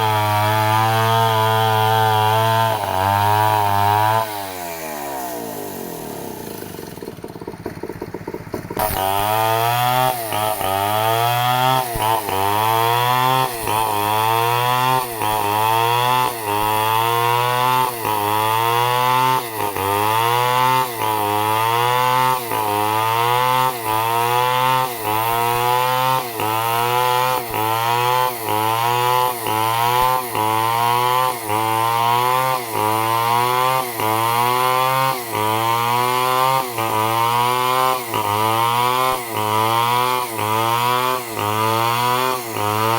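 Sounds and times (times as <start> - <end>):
chainsaw cutting a log: 0.0 - 42.9.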